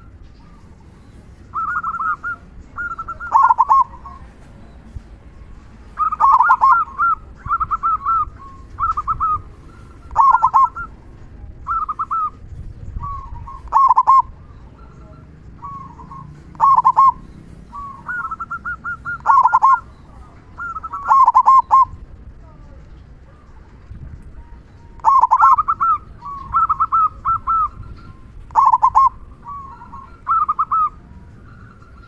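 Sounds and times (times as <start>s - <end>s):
dove cooing: 0.0s - 4.5s, 5.4s - 12.4s, 13.0s - 32.0s.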